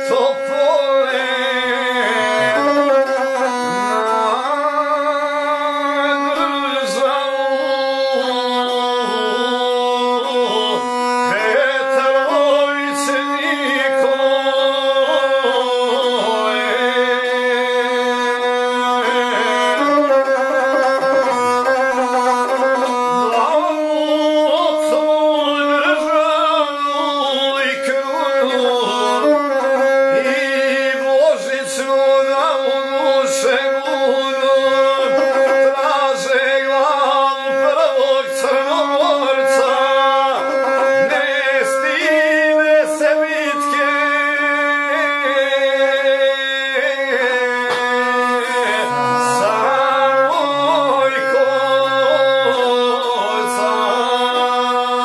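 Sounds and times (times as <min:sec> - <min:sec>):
bowed single-string fiddle: 0:00.0 - 0:55.0
man singing: 0:00.0 - 0:55.0.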